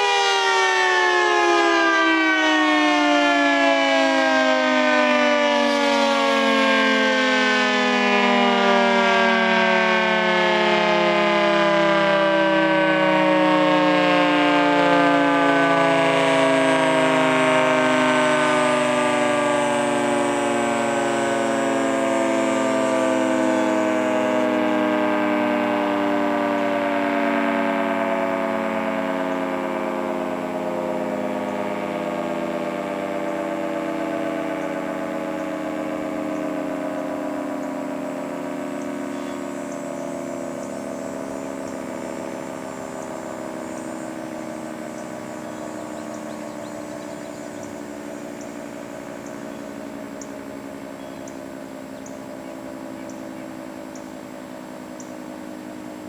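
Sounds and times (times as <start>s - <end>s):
dual-tone siren winding down: 0.0s - 56.0s.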